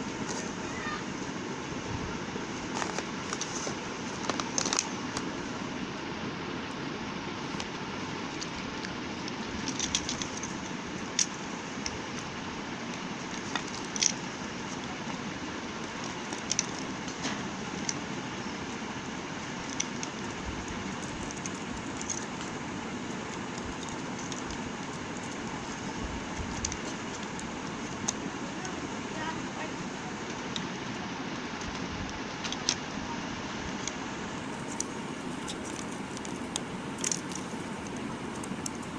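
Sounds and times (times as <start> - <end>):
background hiss and rumble: 0.0 - 38.9.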